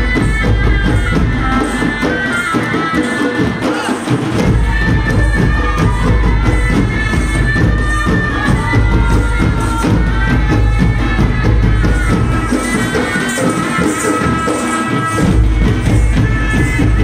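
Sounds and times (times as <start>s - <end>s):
fast drumming: 0.0s - 17.0s
wind instrument melody: 0.0s - 17.0s.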